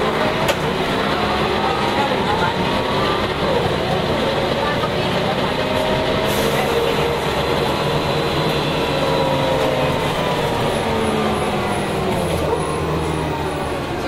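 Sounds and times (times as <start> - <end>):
bus diesel engine droning with whine: 0.0 - 14.0.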